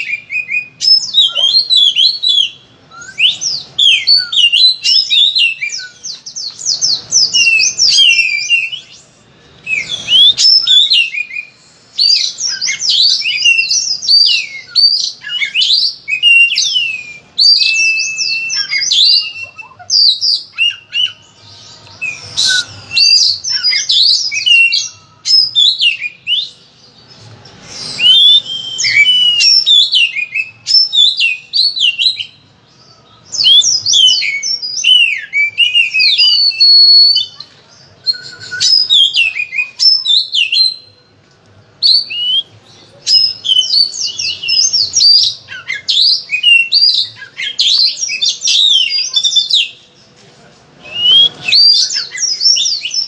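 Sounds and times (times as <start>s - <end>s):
bird singing whistled phrases: 0.0s - 41.1s, 41.8s - 49.8s, 50.8s - 53.0s.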